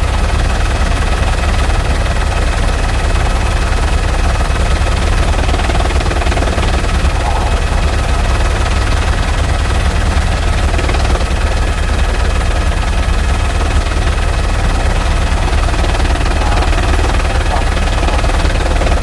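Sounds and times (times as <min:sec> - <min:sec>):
helicopter rotor chopping: 0:00.0 - 0:19.0.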